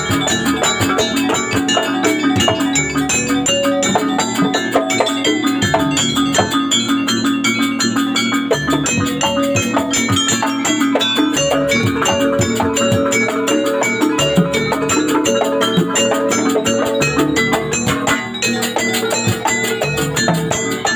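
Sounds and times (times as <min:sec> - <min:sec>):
drums: 0:00.0 - 0:20.9
held tones: 0:00.0 - 0:20.9
tuned metal percussion strokes: 0:00.0 - 0:20.9.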